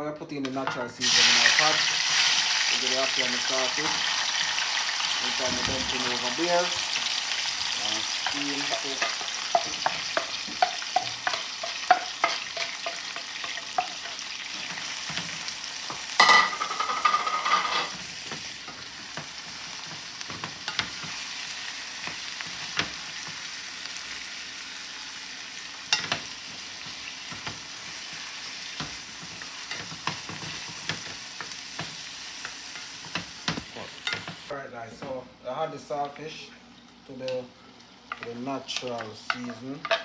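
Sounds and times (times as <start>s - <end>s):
food sizzling in hot oil: 1.0s - 34.6s.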